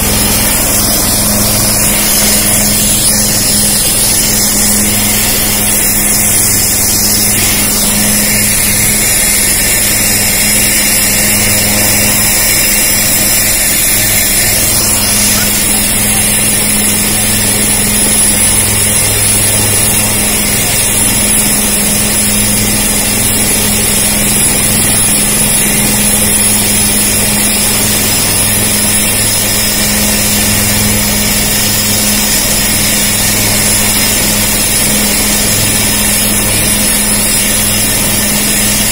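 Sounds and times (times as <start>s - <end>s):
helicopter engine and rotor noise: 0.0s - 38.9s
high turbine whine: 0.0s - 38.9s.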